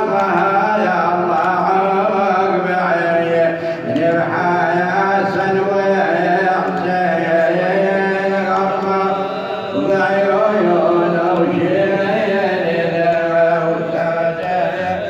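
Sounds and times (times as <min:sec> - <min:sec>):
man chanting a lament: 0:00.0 - 0:15.0.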